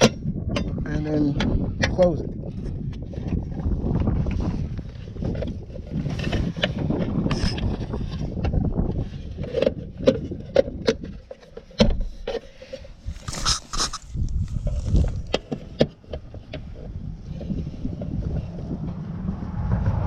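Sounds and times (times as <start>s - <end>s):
wind buffeting microphone: 0.0s - 11.3s, 14.0s - 20.0s.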